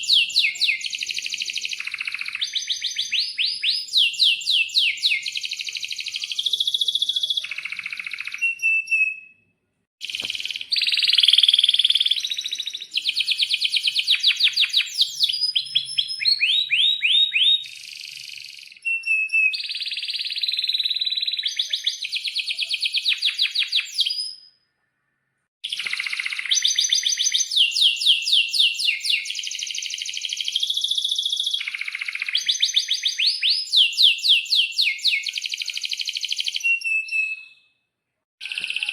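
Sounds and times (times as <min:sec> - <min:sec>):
canary singing trills and chirps: 0:00.0 - 0:09.4, 0:10.0 - 0:24.5, 0:25.6 - 0:37.7.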